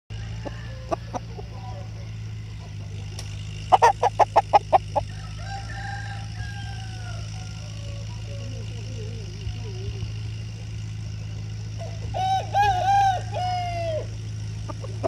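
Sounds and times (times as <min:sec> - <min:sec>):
rooster calling: 0:00.1 - 0:15.0
steady low hum: 0:00.1 - 0:15.0.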